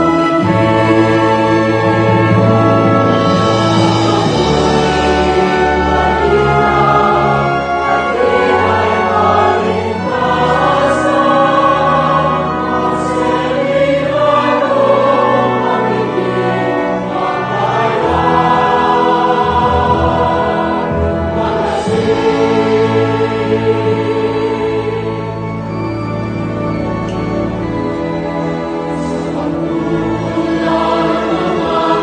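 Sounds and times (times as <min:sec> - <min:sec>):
choir singing a hymn: 0:00.0 - 0:32.0
orchestral accompaniment: 0:00.0 - 0:32.0.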